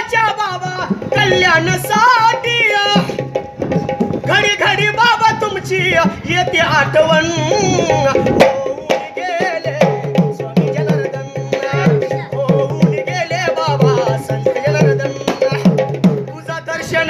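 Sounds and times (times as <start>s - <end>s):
barrel drum beating folk rhythm: 0.0s - 17.0s.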